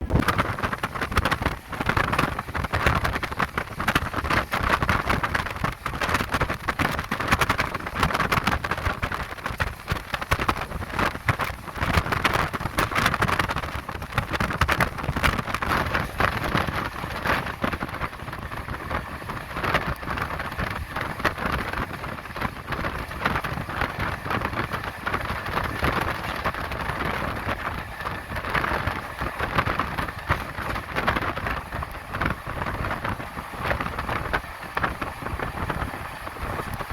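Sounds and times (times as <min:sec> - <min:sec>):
train wheel and wind rush: 0:00.0 - 0:36.9
wheels clicking on track: 0:00.0 - 0:36.9.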